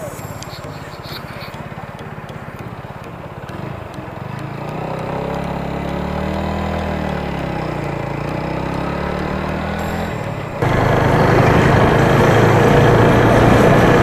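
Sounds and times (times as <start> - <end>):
motorcycle engine pulling away: 1.7 - 14.0.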